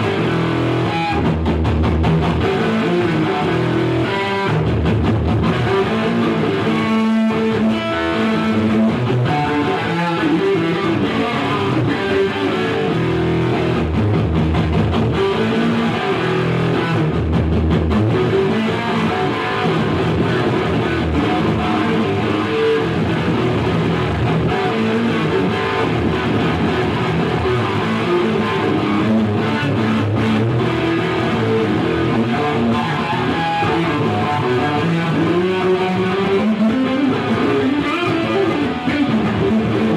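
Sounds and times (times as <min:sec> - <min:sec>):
loud guitar rock music: 0:00.0 - 0:39.9.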